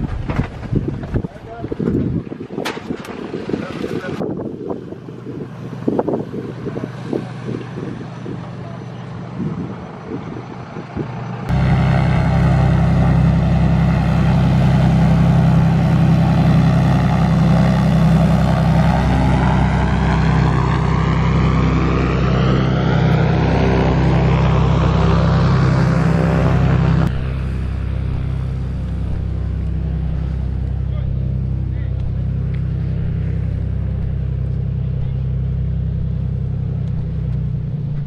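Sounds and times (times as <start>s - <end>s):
loud steady engine noise: 3.6s - 38.0s.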